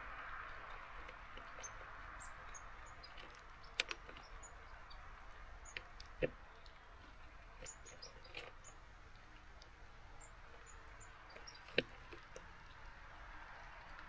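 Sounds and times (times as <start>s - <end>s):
beaks tapping on feeder: 0.0s - 14.0s
birds chirping: 0.0s - 14.0s.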